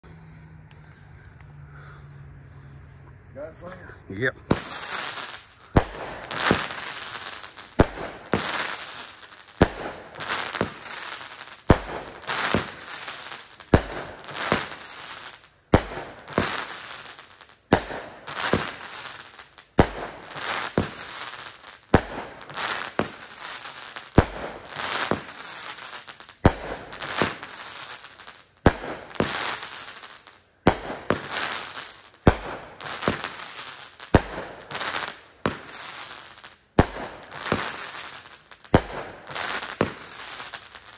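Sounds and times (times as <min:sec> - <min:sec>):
fireworks cake firing shots: 0:04.4 - 0:40.9.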